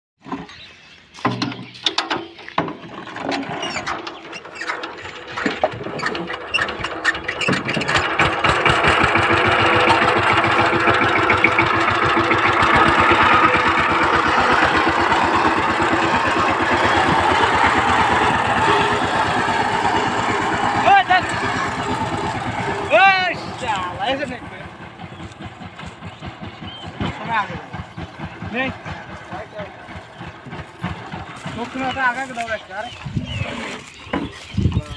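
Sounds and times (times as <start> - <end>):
diesel engine starting and running: 0.2 - 34.9.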